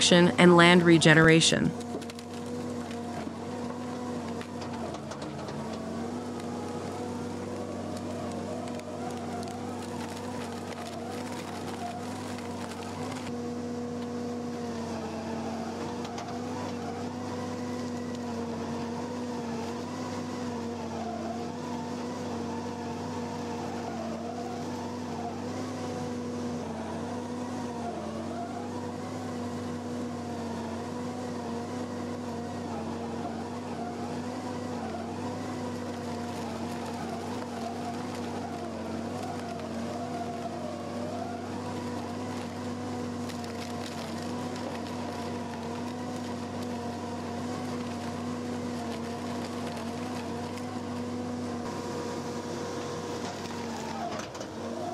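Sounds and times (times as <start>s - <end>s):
stump shredder droning: 1.7s - 54.9s.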